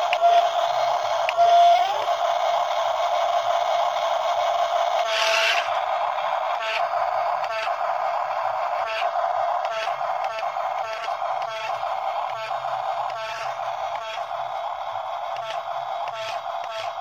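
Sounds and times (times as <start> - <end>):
electric gear motor whine: 0.0 - 17.0.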